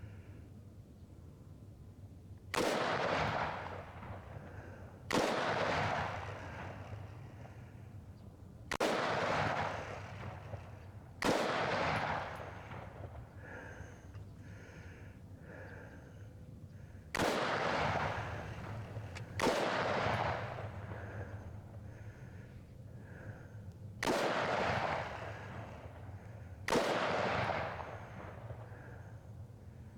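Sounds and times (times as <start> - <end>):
rifle shots with rolling echo: 2.5 - 7.9, 8.7 - 14.9, 17.0 - 29.7.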